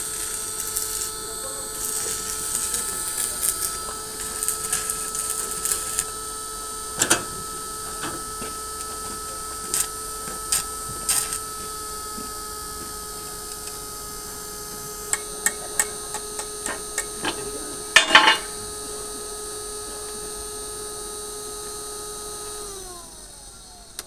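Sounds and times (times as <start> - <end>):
electrical hum: 0.0 - 24.0
welding arc crackling: 0.0 - 24.0.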